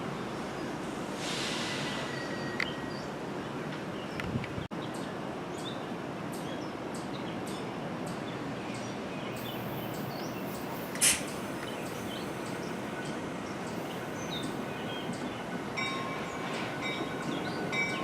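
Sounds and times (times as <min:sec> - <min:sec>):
songbirds chirping: 0:02.2 - 0:18.0
outdoor background hiss: 0:03.1 - 0:17.8.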